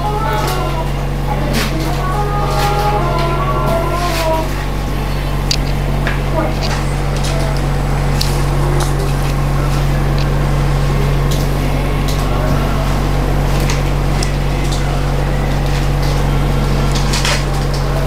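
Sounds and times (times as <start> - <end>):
equipment humming: 0.0 - 18.0.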